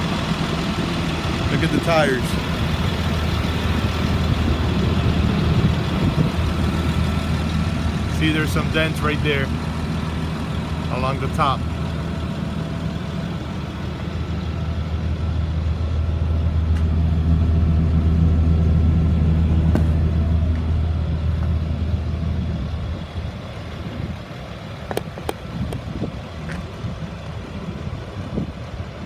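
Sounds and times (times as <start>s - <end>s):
bus engine idling: 0.0s - 29.0s.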